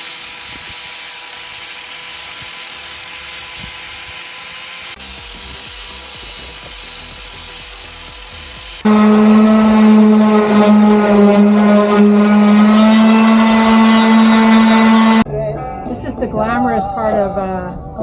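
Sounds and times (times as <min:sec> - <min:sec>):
electric power sander sanding: 0:00.0 - 0:15.2.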